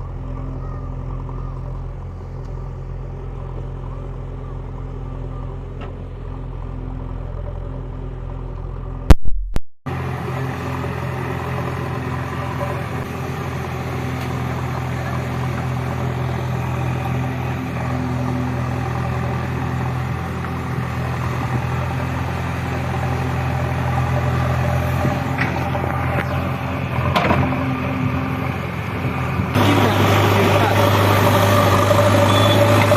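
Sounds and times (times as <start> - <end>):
heavy diesel engine running: 0.0 - 9.2, 9.9 - 32.9.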